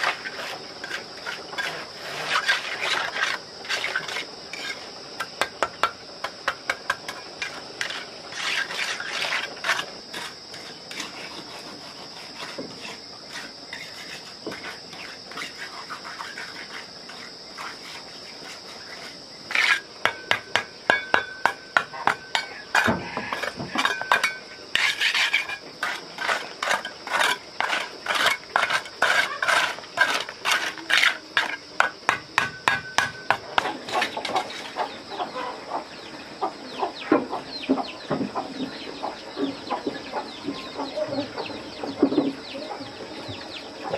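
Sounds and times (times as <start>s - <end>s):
high-pitched insect drone: 0.0s - 43.9s.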